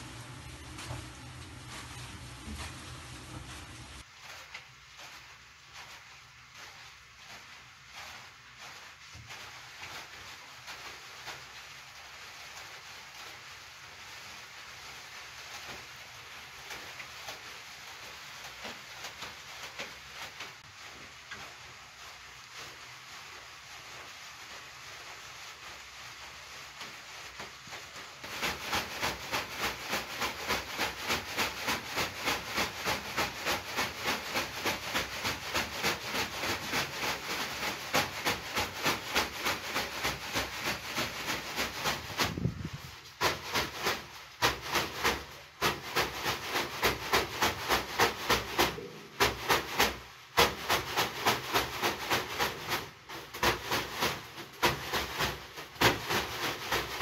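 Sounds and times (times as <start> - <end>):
leafy whisks swishing and patting: 0.0 - 57.0.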